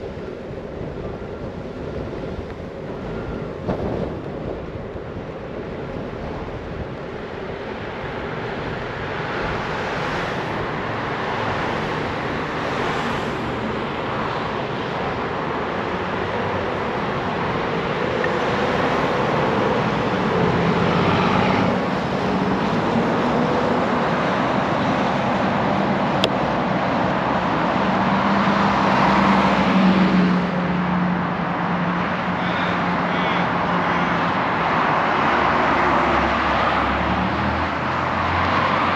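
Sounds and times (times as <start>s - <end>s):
cars driving past: 7.6s - 38.9s.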